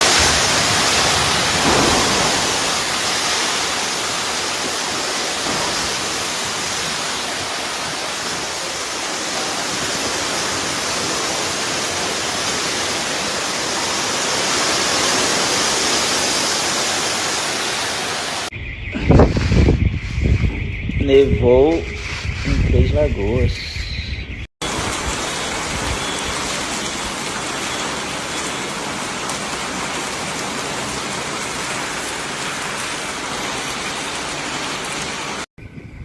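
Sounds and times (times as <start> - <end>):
heavy rain and hail falling: 0.0 - 18.5, 24.6 - 35.5.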